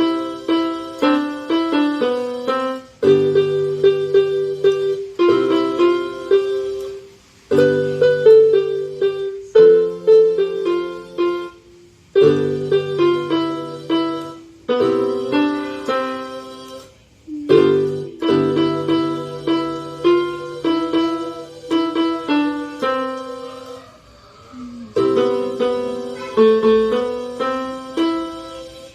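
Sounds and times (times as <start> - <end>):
electronic keyboard melody: 0.0 - 23.9, 25.0 - 28.9.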